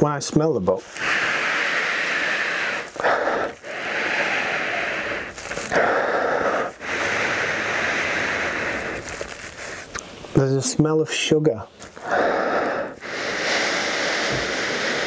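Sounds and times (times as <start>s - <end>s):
man sniffing deeply: 0.8s - 10.1s, 11.9s - 15.0s.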